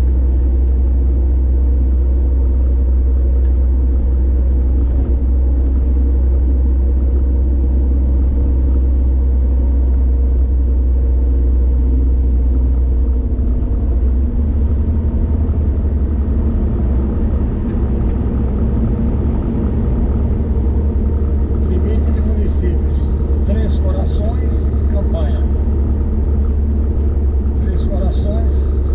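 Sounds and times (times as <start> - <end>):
car driving on highway rumble: 0.0 - 28.9.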